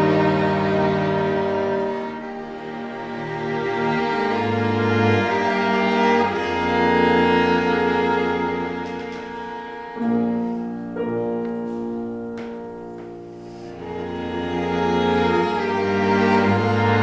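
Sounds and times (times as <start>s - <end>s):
classical chamber music: 0.0s - 17.0s.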